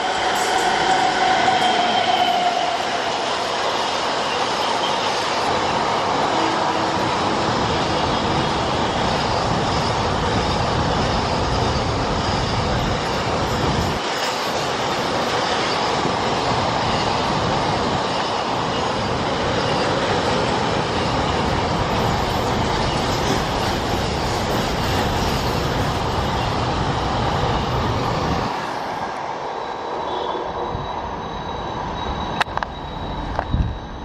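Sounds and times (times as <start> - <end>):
freight wagons rumbling on rails: 0.0 - 28.6.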